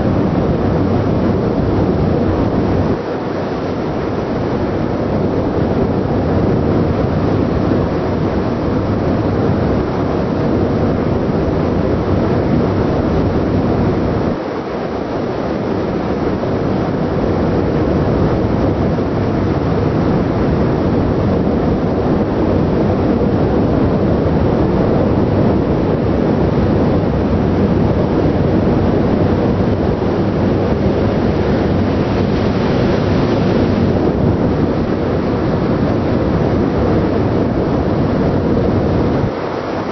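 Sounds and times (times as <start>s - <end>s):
ship running noise: 0.0s - 39.9s
wind buffeting microphone: 0.0s - 39.9s.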